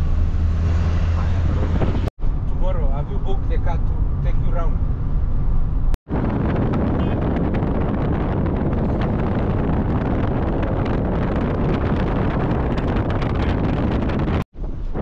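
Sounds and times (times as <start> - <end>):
rumbling road and vehicle noise: 0.0 - 15.0
wind buffeting microphone: 0.6 - 2.6, 3.7 - 15.0.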